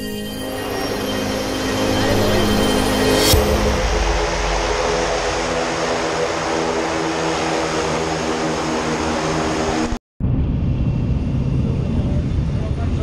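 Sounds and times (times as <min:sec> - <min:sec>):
propeller engine running: 0:00.0 - 0:13.0.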